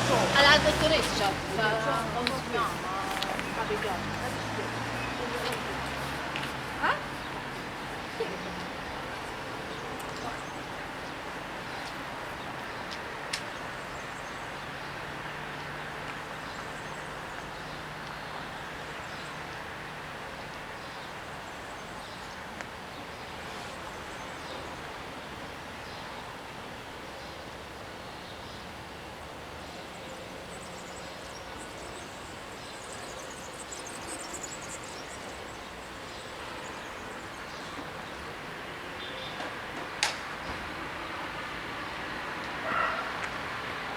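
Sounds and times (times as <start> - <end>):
distant traffic hum: 0.0 - 43.9.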